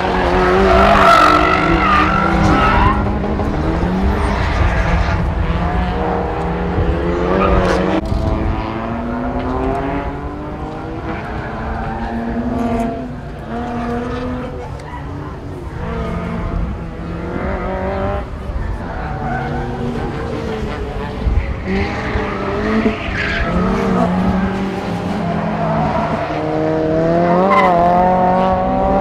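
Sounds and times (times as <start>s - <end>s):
car engine revving hard: 0.0s - 14.6s, 15.7s - 29.0s.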